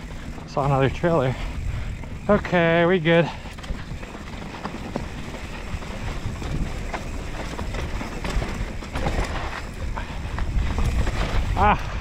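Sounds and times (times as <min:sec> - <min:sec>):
tyres crunching over stones: 0:00.0 - 0:11.9
bike clicking and rattling: 0:00.0 - 0:12.0
wind rumble on microphone: 0:00.0 - 0:12.0.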